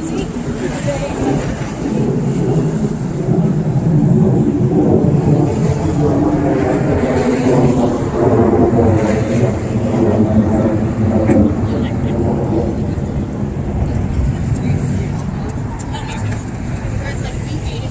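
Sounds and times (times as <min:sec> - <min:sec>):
loud vehicle traffic rumble: 0:00.0 - 0:17.9.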